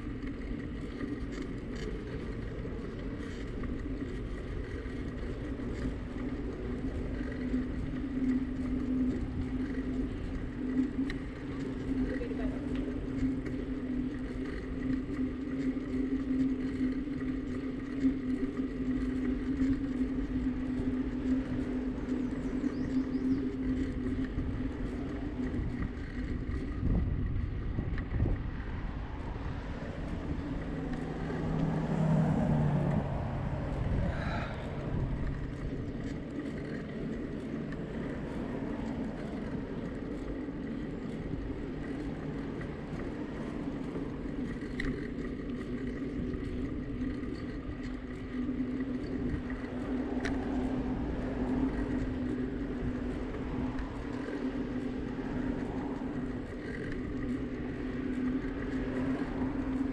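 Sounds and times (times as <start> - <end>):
bicycle riding hum: 0.0 - 59.9
low rumble: 0.0 - 59.9.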